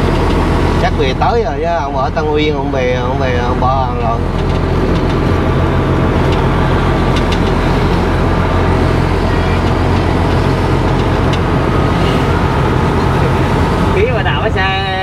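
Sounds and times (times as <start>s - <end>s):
road noise: 0.0s - 15.0s
truck diesel engine cruising: 0.0s - 15.0s.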